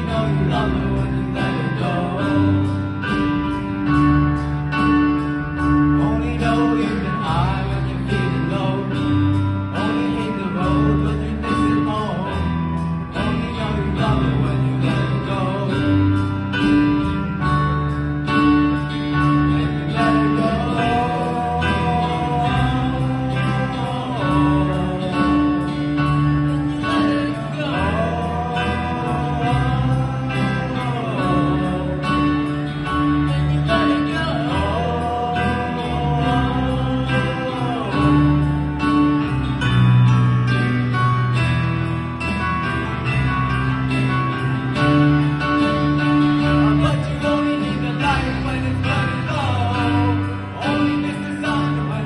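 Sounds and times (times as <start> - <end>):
person singing: 0.0 - 17.3, 18.4 - 39.8, 44.8 - 52.0
drum kit: 0.0 - 52.0
electric bass: 0.0 - 52.0
strummed acoustic guitar: 0.0 - 52.0.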